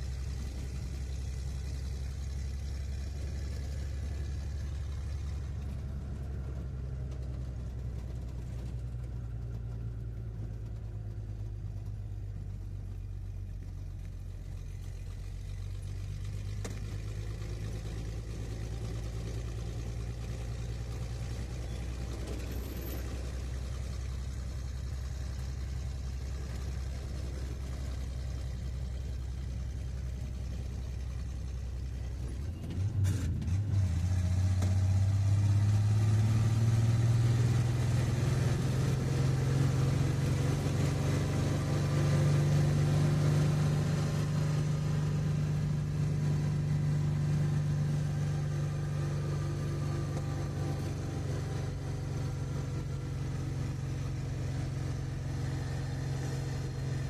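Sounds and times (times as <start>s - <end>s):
car engine under load: 0.0s - 57.0s.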